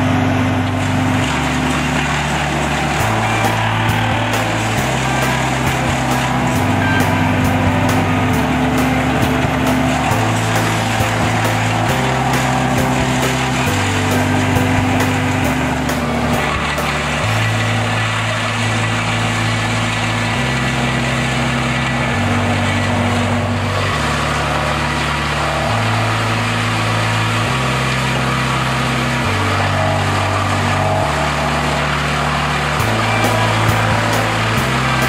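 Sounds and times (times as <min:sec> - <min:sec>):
wood chipper chipping branches: 0:00.0 - 0:35.0
background music with bass line: 0:00.9 - 0:35.0.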